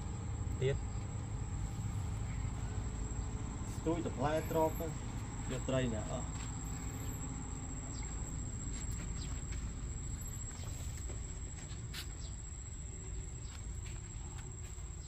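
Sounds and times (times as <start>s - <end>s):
thin high-pitched whine: 0.0s - 14.1s.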